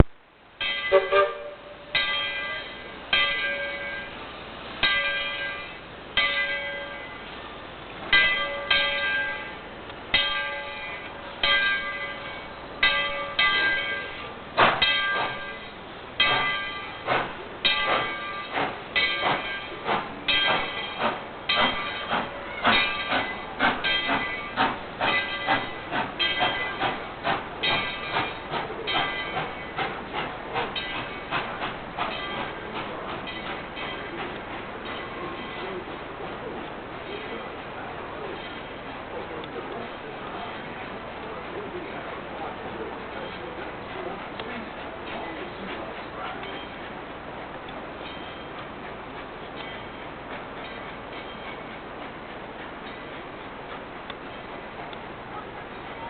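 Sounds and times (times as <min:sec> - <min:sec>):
steam locomotive exhaust chuffs: 0:00.0 - 0:56.0.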